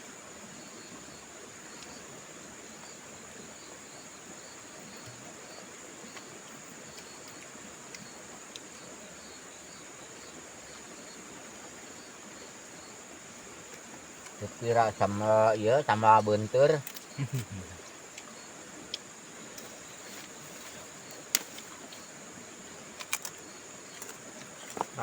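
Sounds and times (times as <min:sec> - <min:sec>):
faint outdoor hiss: 0:00.0 - 0:25.0
high-pitched insect chorus: 0:00.0 - 0:25.0.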